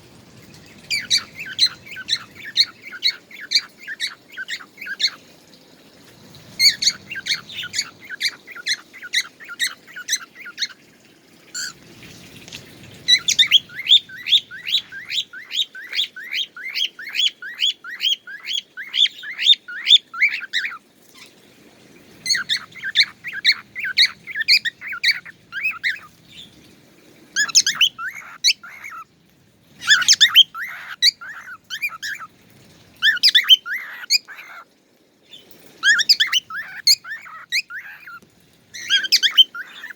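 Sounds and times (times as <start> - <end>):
songbird chirping: 0.4 - 32.4, 33.0 - 39.9.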